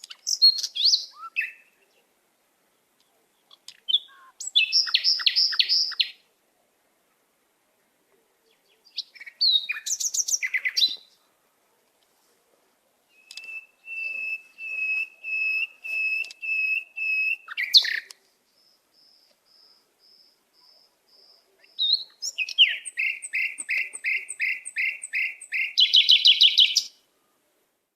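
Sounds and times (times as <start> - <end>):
songbird singing whistled notes: 0.0 - 2.1, 3.0 - 6.2, 8.4 - 11.2, 13.1 - 27.4.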